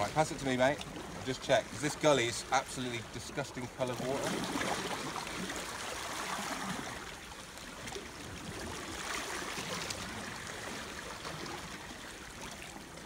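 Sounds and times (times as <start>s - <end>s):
sea water washing against rocks: 0.0s - 13.0s.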